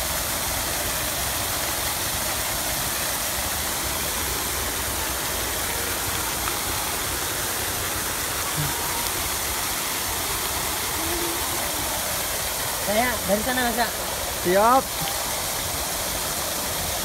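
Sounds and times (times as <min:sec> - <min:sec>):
fountain water splashing into pool: 0:00.0 - 0:17.0.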